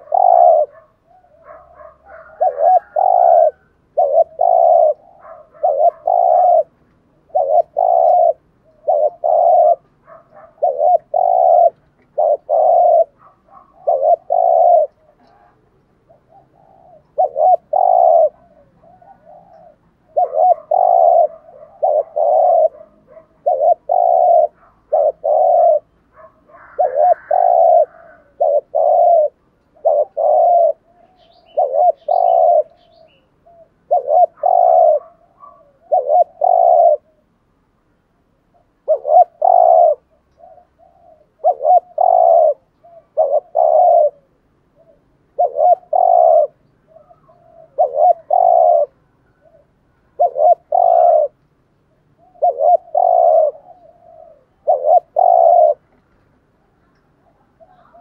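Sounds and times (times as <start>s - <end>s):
dove cooing: 0.0s - 37.4s, 38.4s - 58.0s.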